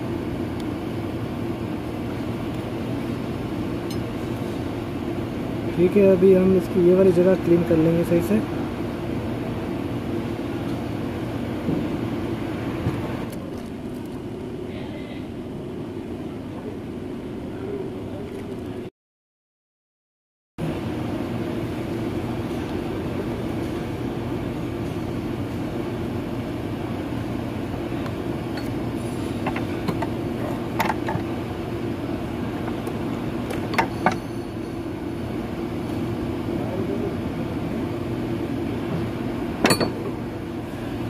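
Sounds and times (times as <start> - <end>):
low machine hum: 0.0 - 18.9, 20.6 - 41.0.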